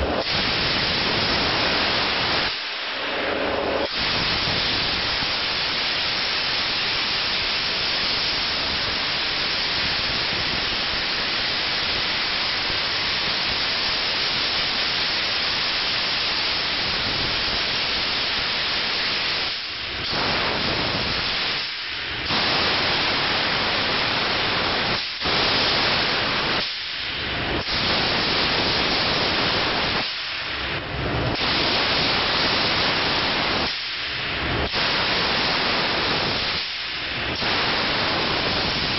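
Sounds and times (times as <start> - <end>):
steam wash gun hissing: 0.0 - 38.9.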